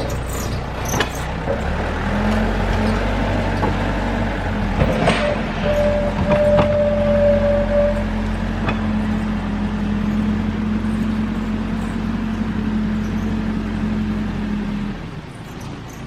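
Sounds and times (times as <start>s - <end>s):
backhoe diesel engine running: 0.0s - 16.0s.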